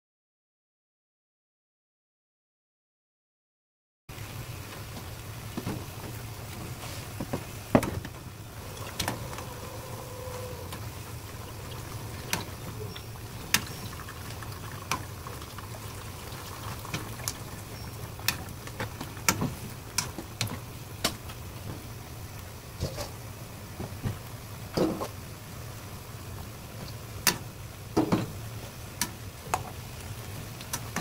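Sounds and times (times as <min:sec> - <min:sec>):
boiling water bubbling: 0:04.1 - 0:31.0.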